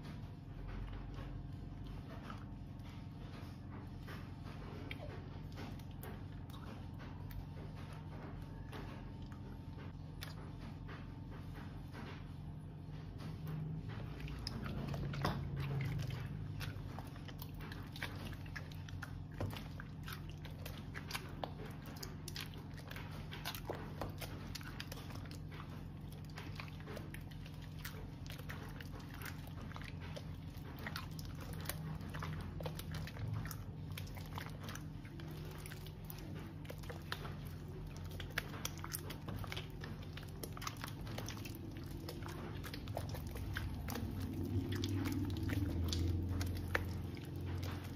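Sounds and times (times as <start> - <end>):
slime squelching and crackling: 0.0 - 47.9.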